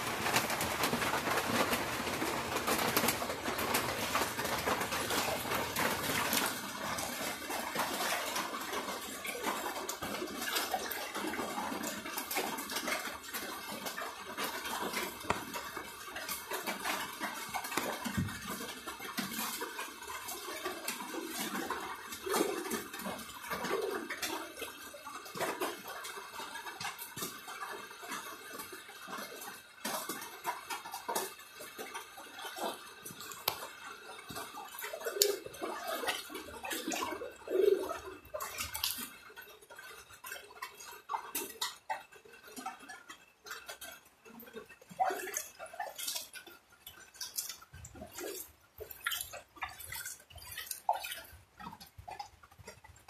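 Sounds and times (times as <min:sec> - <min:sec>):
water splashing and dripping: 0:00.0 - 0:53.0.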